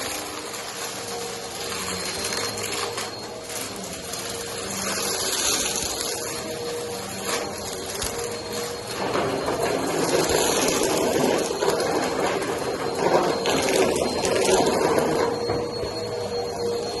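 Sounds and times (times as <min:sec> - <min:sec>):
vacuum cleaner on carpet: 0:00.0 - 0:17.0.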